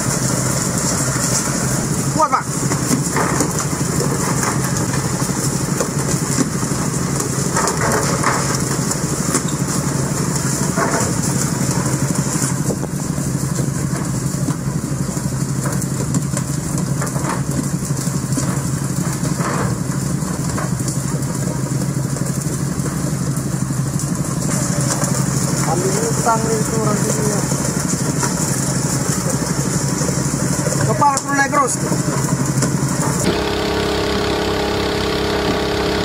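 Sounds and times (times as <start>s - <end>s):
boat engine running: 0.0s - 15.6s, 22.3s - 36.0s.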